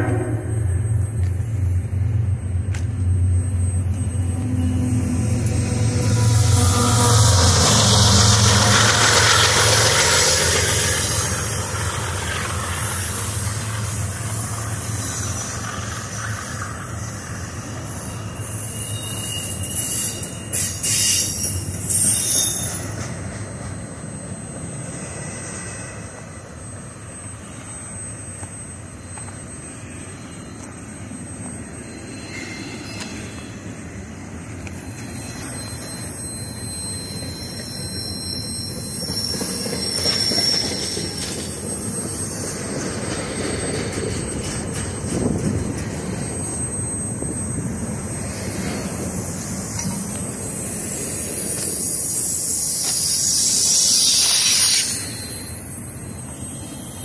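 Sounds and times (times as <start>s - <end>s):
diesel locomotive engine hum: 0.0s - 57.0s
high wheel squeal: 0.0s - 57.0s
train wheels rolling on rails: 0.0s - 57.0s.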